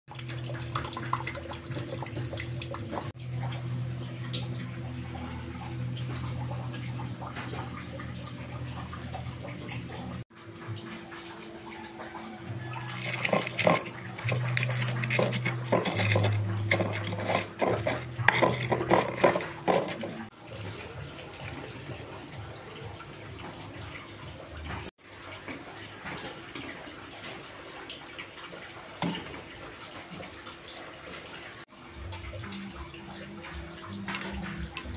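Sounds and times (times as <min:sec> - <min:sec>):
broth bubbling in a pot: 0:00.1 - 0:34.9
water running and dripping: 0:00.1 - 0:34.9.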